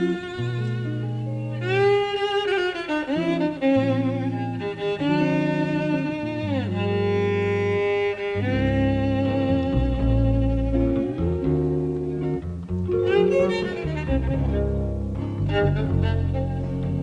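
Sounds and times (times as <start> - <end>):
double bass: 0.0 - 2.0, 3.1 - 17.0
guitar accompaniment: 0.0 - 17.0
jazz violin melody: 0.0 - 17.0.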